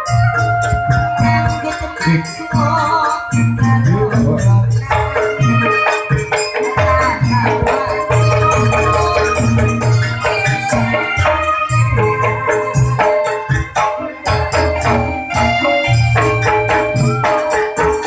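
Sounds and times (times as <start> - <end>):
heavy drum beats: 0.0 - 18.0.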